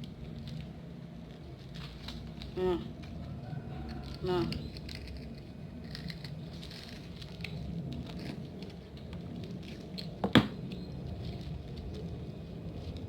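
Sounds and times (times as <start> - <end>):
plastic wrappers rustling: 0.0 - 13.0.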